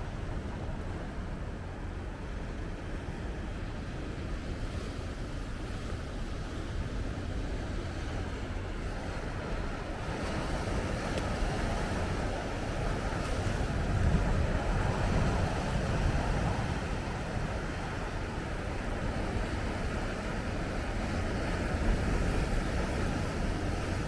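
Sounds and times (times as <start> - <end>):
wind buffeting microphone: 0.0 - 24.0
ocean waves breaking on rocks: 4.1 - 24.0.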